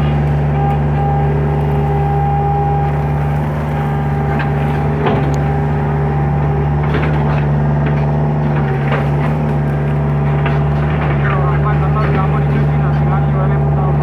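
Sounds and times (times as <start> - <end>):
excavator diesel engine running: 0.0 - 14.0
short knocks: 0.0 - 14.0.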